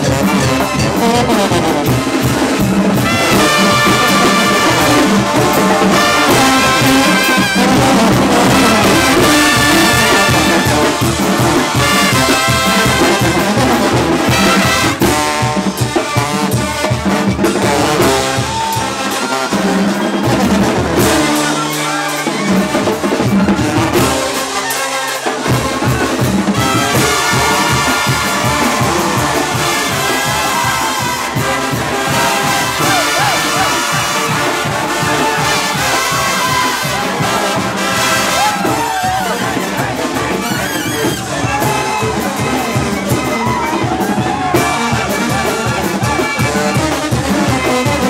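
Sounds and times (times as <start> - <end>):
brass band playing: 0.0 - 48.0
drums: 0.0 - 48.0.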